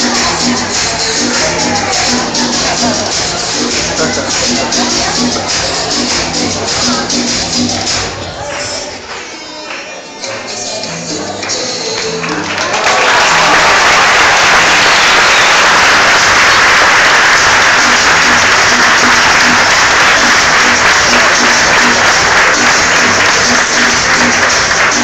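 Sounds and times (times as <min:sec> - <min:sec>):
crowd clapping: 0:00.0 - 0:25.0
music playing: 0:00.0 - 0:25.0.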